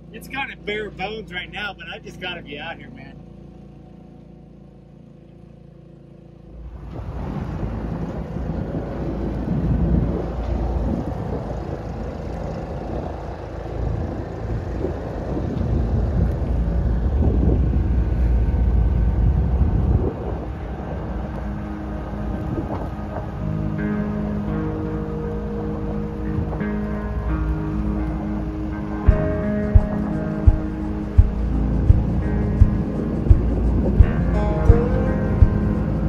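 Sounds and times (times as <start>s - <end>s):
water rushing along hull: 6.6s - 36.0s
wind buffeting microphone: 6.6s - 36.0s.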